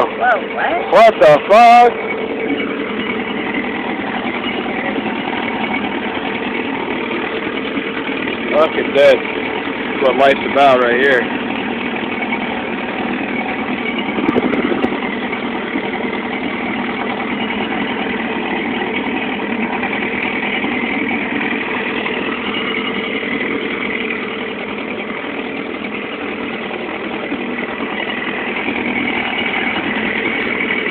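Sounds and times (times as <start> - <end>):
boat motor running: 0.0 - 30.9.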